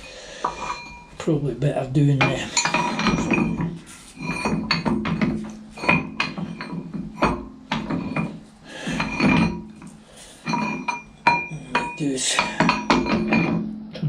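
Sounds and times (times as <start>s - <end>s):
metallic clinks and knocks: 0.4s - 1.2s, 2.2s - 13.8s.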